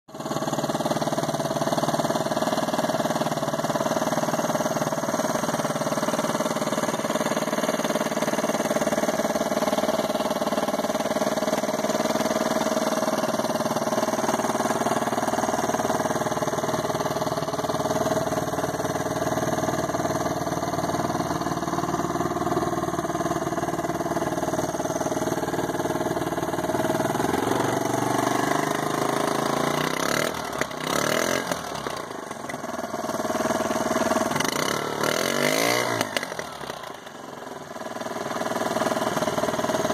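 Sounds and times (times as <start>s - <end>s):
outboard motor idling: 0.1s - 39.9s.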